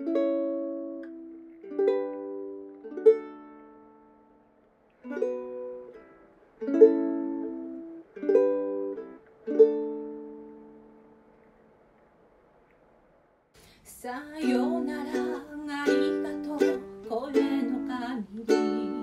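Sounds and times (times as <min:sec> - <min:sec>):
ukulele chord strums: 0:00.0 - 0:12.0, 0:13.6 - 0:19.0.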